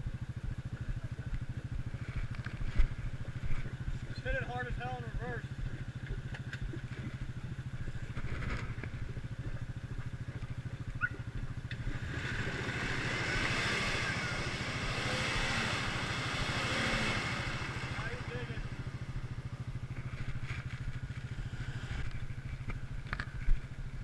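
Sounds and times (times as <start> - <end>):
engine idling: 0.0 - 24.0
vehicle driving through mud: 1.0 - 24.0.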